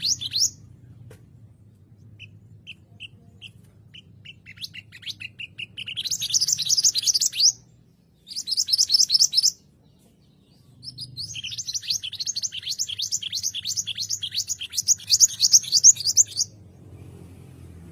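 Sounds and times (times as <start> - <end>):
songbird singing: 0.0 - 17.7.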